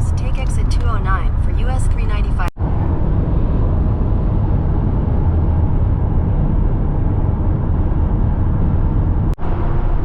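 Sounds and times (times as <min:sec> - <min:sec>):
vehicle road and engine noise: 0:00.0 - 0:10.0.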